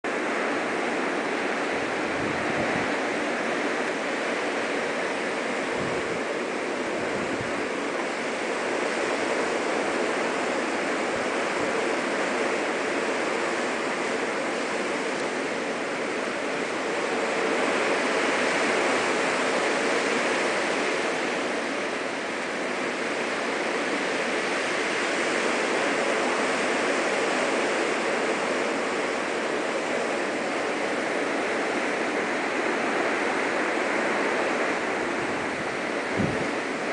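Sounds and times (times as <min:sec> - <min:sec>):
strong blizzard wind: 0:00.0 - 0:36.9.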